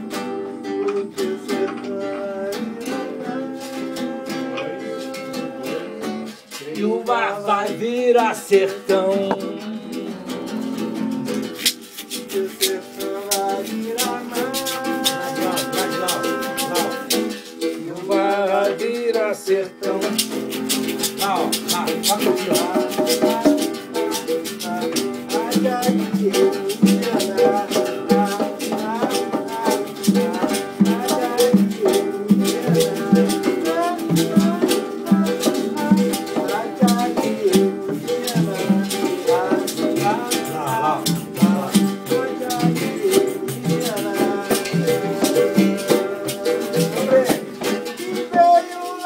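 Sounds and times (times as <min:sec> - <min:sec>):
acoustic guitar strumming: 0:00.0 - 0:49.0
berimbau with rattling shaker: 0:00.0 - 0:49.0
congas: 0:00.0 - 0:49.0
voices singing: 0:00.0 - 0:49.0.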